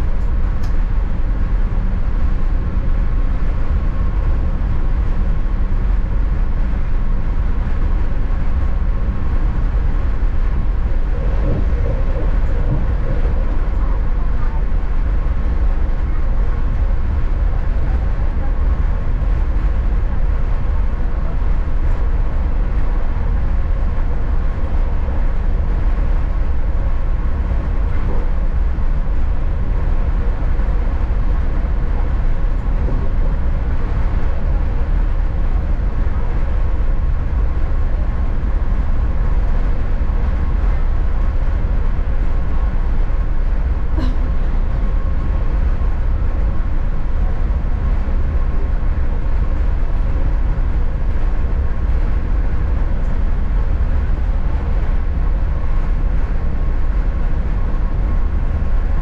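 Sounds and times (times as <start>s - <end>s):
faint constant hum: 0.0s - 59.0s
train running low rumble: 0.0s - 59.0s.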